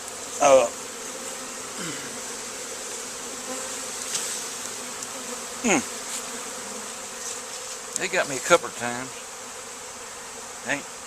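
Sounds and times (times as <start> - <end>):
bee swarm buzzing: 0.0 - 11.0
buzz dropping in pitch: 0.4 - 11.0.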